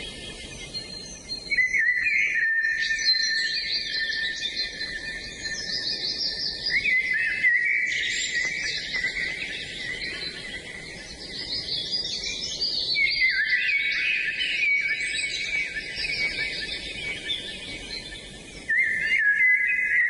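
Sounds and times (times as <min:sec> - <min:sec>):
songbirds chorus: 0:00.0 - 0:20.0.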